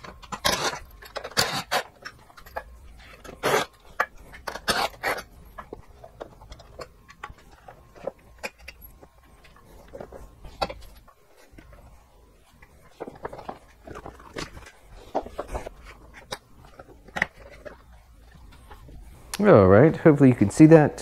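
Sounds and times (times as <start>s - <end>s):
hands handling plastic parts: 0.0s - 19.4s.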